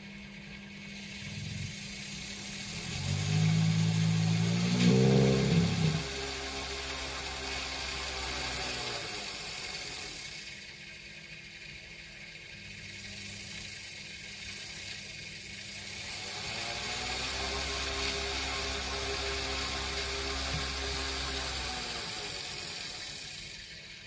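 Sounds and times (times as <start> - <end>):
small electric motors whirring: 0.7 - 24.0.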